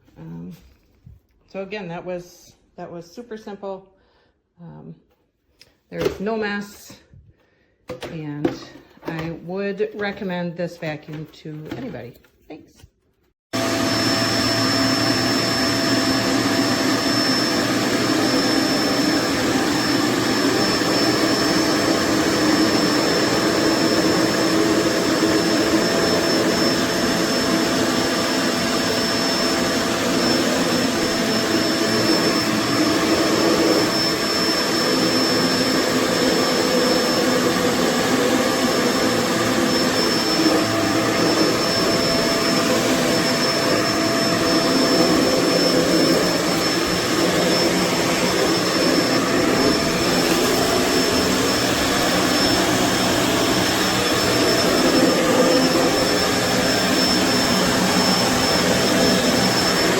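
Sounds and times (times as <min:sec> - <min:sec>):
vacuum cleaner running: 0:07.9 - 0:11.9, 0:13.5 - 0:59.9.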